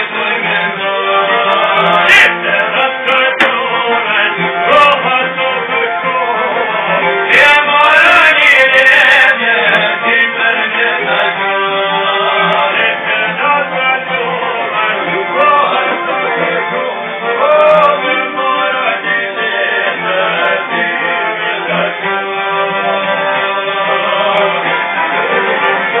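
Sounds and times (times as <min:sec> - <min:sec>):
plucked lutes strumming: 0:00.0 - 0:26.0
violin playing: 0:00.0 - 0:26.0.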